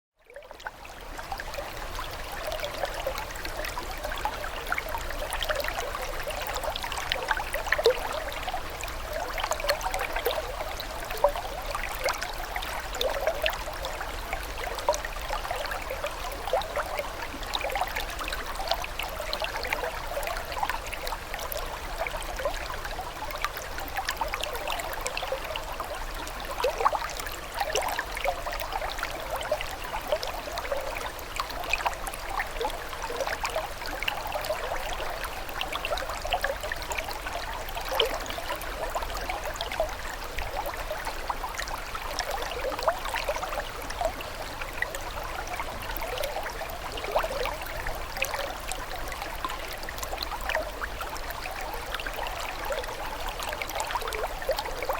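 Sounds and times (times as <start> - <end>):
small water plinks and splashes: 0.2 - 54.9.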